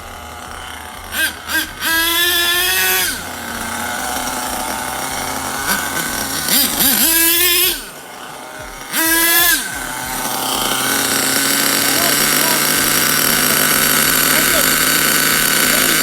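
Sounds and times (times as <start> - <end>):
small nitro engine revving: 0.0 - 16.0.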